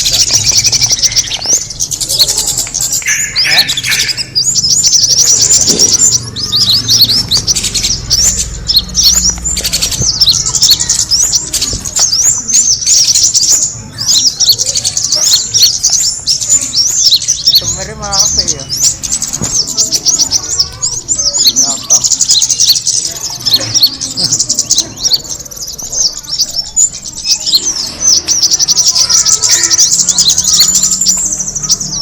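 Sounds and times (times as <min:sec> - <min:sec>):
bird lure chirps and trills: 0:00.0 - 0:32.0.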